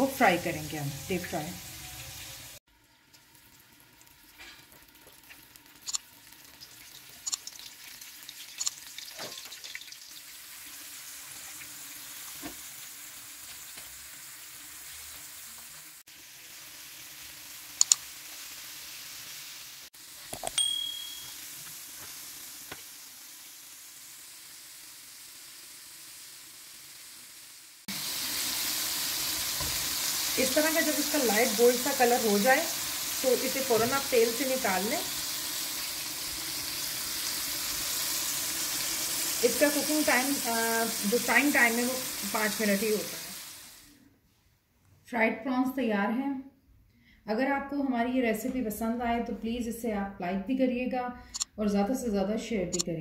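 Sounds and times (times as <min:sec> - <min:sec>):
prawns deep-frying in oil: 0:00.0 - 0:44.0.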